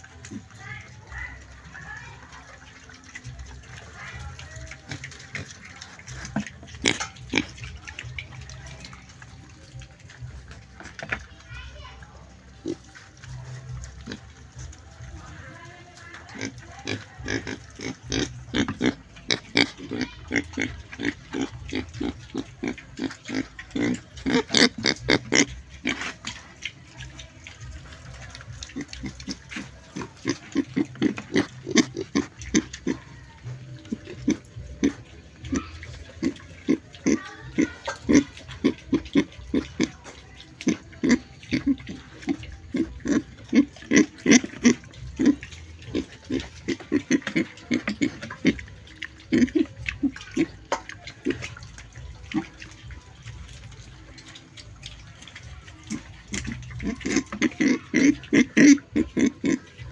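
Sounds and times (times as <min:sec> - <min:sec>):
pig grunting: 0:00.0 - 0:59.9.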